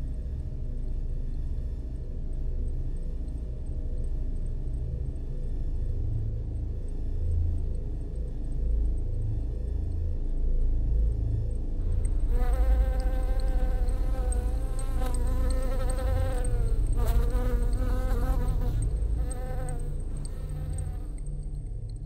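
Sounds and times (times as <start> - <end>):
buzzing wavering tone: 0.0 - 22.0
deep steady rumble: 0.0 - 22.0.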